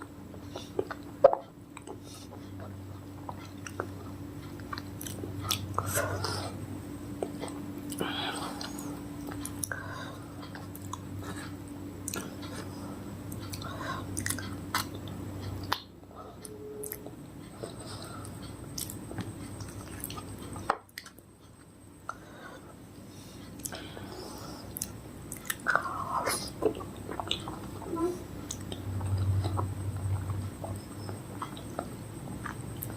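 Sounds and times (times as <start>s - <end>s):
chewing soft fruit: 0.0s - 32.9s
low background hum: 0.0s - 32.9s.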